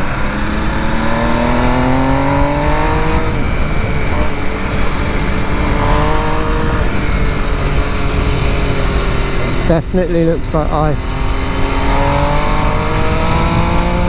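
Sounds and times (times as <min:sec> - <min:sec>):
motorcycle engine accelerating: 0:00.0 - 0:14.0
wind rush: 0:00.0 - 0:14.0.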